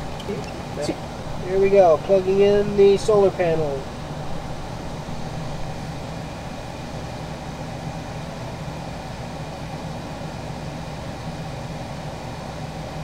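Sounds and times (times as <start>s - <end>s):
air conditioner humming and blowing: 0.0s - 13.0s.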